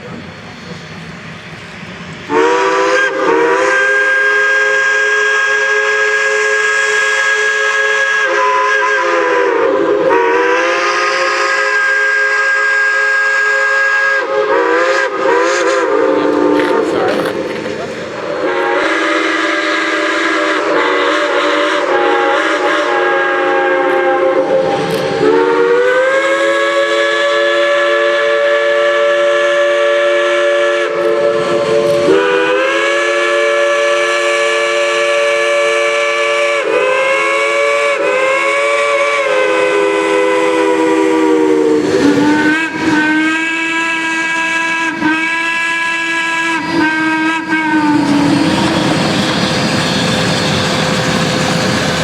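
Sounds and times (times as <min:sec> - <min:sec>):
steam hissing: 0:00.0 - 0:52.0
steam whistle blasts: 0:02.3 - 0:17.5, 0:18.3 - 0:51.2.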